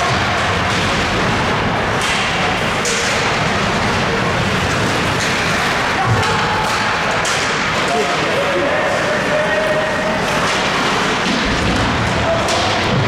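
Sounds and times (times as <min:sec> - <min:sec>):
arena crowd noise: 0:00.0 - 0:13.0
hockey sticks and puck clacking: 0:00.0 - 0:13.0.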